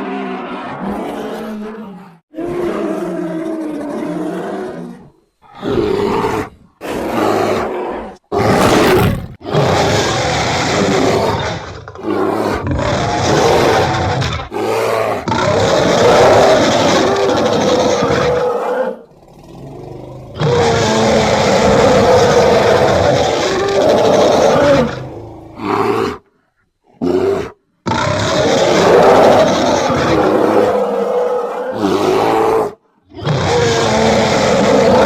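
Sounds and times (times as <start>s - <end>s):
bear roars and growls: 0.0s - 35.0s.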